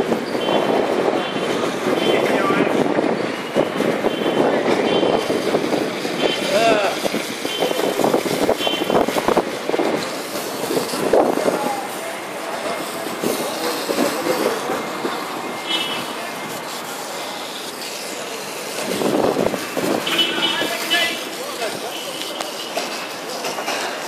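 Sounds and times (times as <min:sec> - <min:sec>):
hose spraying water: 0:00.0 - 0:24.0.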